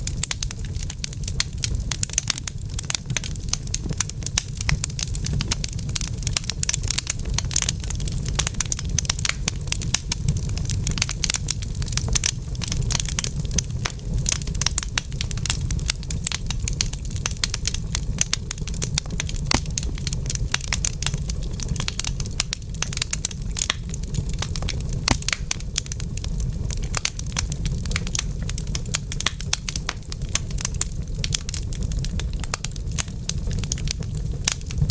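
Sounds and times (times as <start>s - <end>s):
low fire rumble: 0.0s - 34.9s
wood fire crackling: 0.0s - 34.9s.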